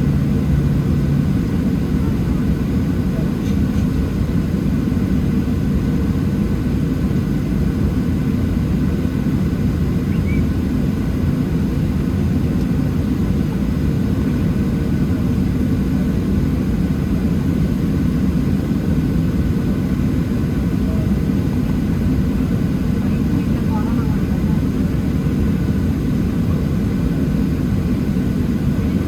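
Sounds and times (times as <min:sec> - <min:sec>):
jet engines idling low rumble: 0:00.0 - 0:29.0.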